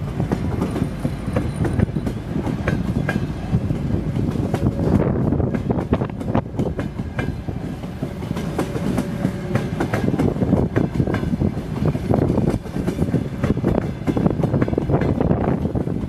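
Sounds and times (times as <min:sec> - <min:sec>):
train rumble: 0:00.0 - 0:16.0
train wheels clacking over rail joints: 0:00.0 - 0:16.0.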